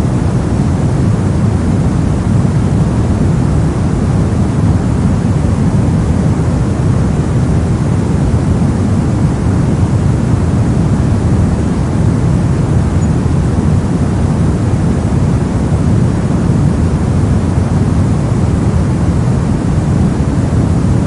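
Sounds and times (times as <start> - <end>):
deep rumbling hiss: 0.0 - 21.0.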